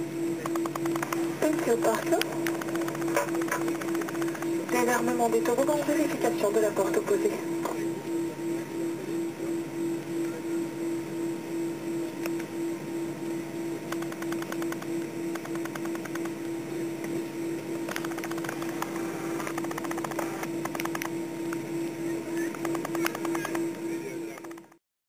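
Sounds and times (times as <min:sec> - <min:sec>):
airplane cabin drone: 0:00.0 - 0:24.8.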